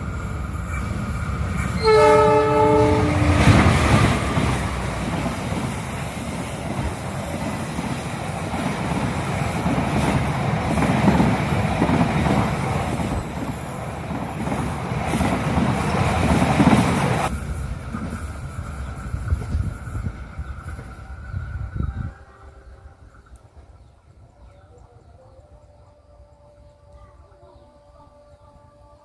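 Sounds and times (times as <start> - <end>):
train wheels rumbling on rails: 0.0 - 23.8.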